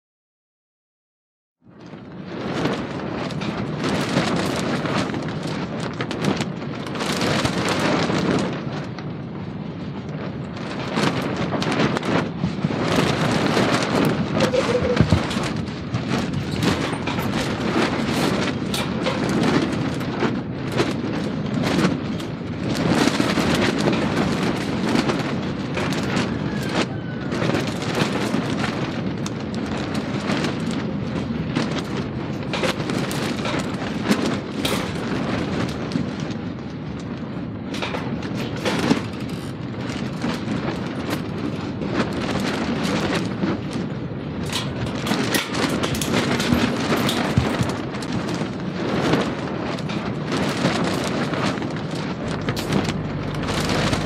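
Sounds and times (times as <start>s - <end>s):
deep rumble of explosions: 1.6s - 54.0s.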